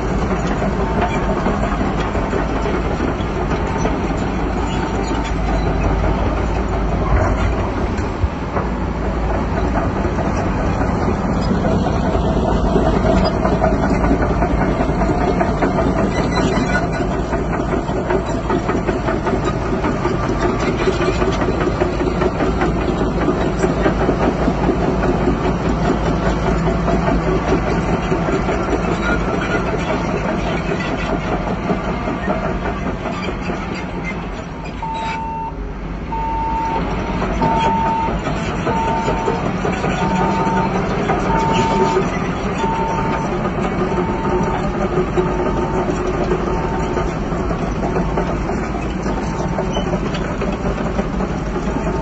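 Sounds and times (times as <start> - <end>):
bulldozer diesel engine running: 0.0 - 52.0
metallic rattle of tracks: 0.0 - 52.0.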